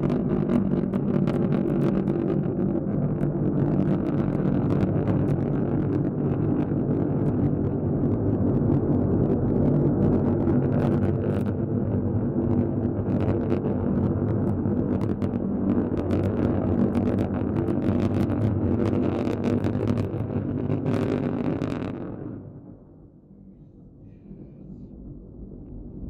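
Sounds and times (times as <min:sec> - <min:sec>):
rocket engine roar with crackle: 0:00.0 - 0:26.0.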